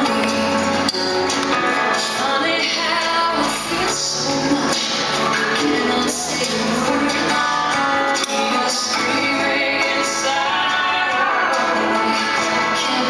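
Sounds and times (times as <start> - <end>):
pop song with female singer: 0.0 - 13.0.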